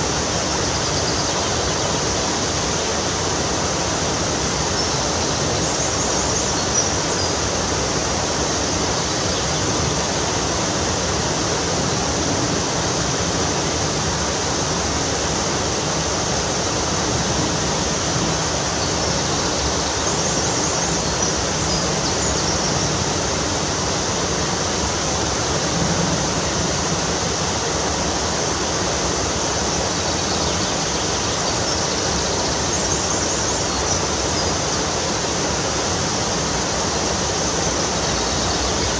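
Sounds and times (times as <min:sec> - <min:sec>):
water rushing down a cascade: 0:00.0 - 0:38.9.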